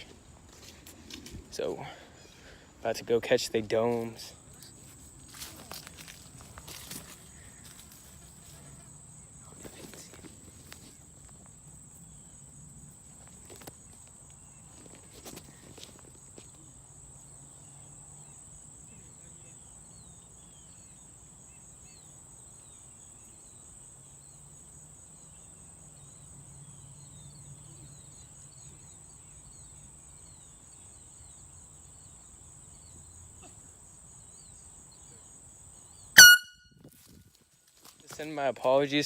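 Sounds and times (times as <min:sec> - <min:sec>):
insect drone: 0:00.0 - 0:39.0.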